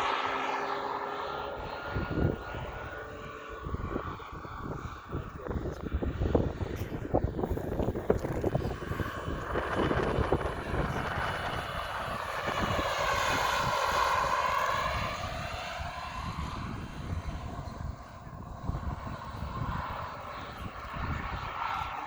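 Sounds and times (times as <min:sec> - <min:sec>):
model helicopter whining: 0:00.0 - 0:22.0
wind on microphone: 0:01.3 - 0:22.0.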